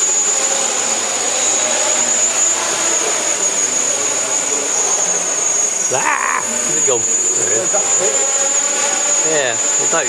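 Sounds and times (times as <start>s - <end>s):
drone propellers whirring: 0.0s - 10.0s
high whine: 0.0s - 10.0s.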